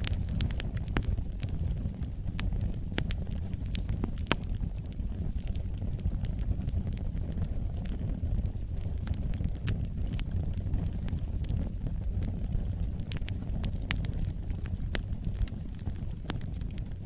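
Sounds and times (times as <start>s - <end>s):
burning wood popping and crackling: 0.0s - 17.0s
campfire low rumble: 0.0s - 17.0s.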